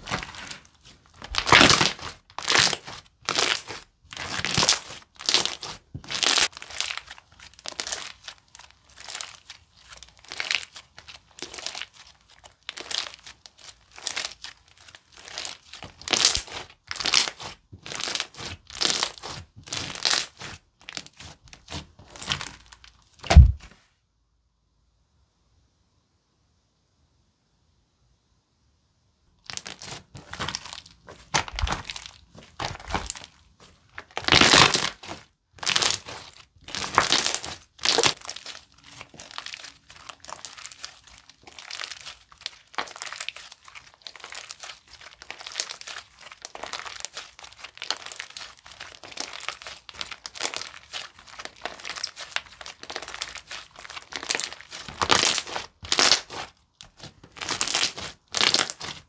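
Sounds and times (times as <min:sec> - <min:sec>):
slime squished by hand: 0:00.0 - 0:23.7, 0:29.4 - 0:59.0.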